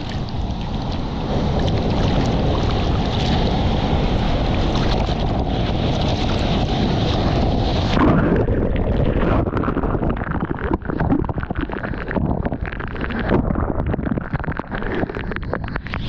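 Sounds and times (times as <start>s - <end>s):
muffled underwater sound: 0.0s - 16.0s
wind on microphone: 0.0s - 16.0s.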